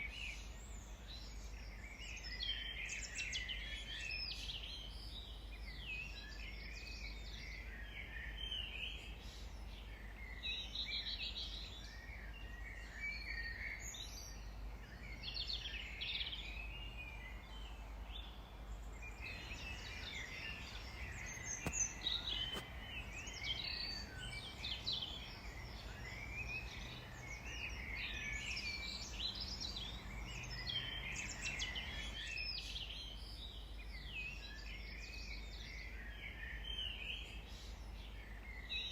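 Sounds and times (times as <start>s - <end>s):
birds singing and chirping: 0.2s - 38.9s.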